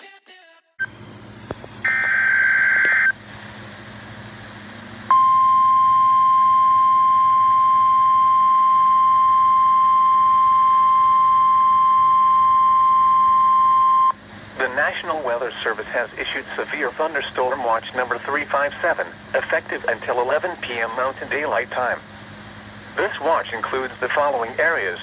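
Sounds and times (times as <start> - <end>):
radio hum and static: 0.8 - 25.0
steady warning alarm tone: 1.8 - 3.2, 5.1 - 25.0.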